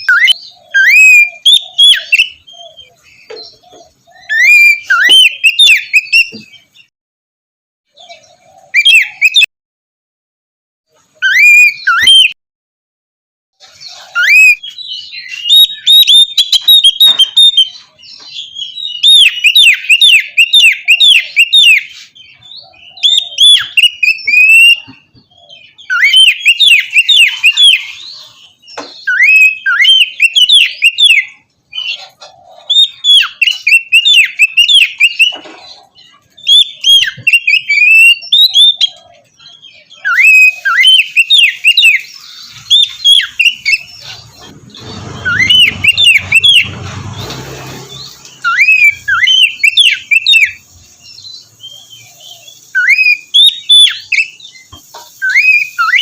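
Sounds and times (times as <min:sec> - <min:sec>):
bird singing whistled phrases: 0:00.0 - 0:06.5, 0:08.7 - 0:09.5, 0:11.2 - 0:12.4, 0:13.9 - 0:32.0, 0:32.7 - 0:35.4, 0:36.4 - 0:44.1, 0:44.9 - 0:46.7, 0:48.4 - 0:56.0.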